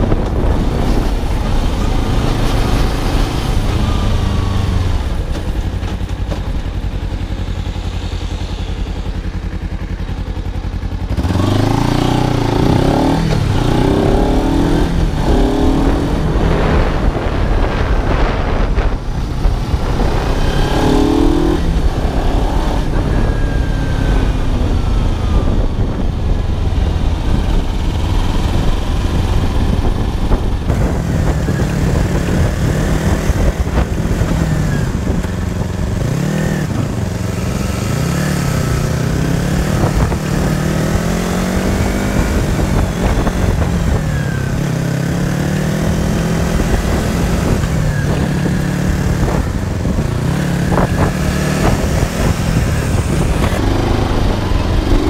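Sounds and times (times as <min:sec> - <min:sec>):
motorcycle engine running: 0:00.0 - 0:55.0
road noise: 0:00.0 - 0:55.0
wind noise: 0:00.0 - 0:55.0.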